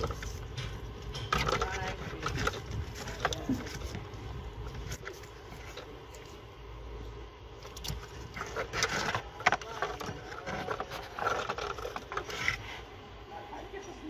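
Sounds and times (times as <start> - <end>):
plastic connectors scraping and rattling: 0.0 - 6.5, 7.6 - 12.9.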